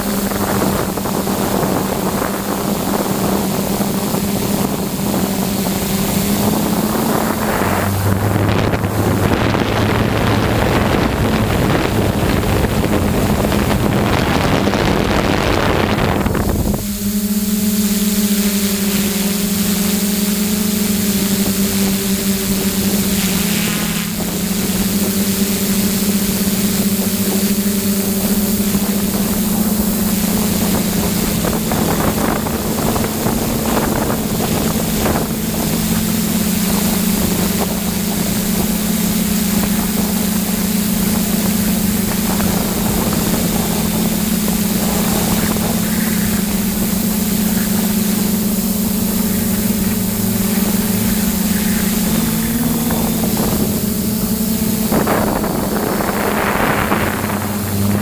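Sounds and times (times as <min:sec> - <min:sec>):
drone motors humming: 0:00.0 - 0:58.0
wind buffeting microphone: 0:00.0 - 0:58.0.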